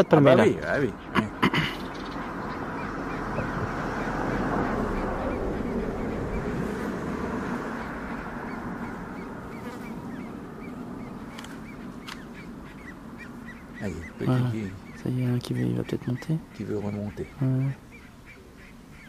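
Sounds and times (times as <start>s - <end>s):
grebe chicks peeping: 0.0s - 19.0s.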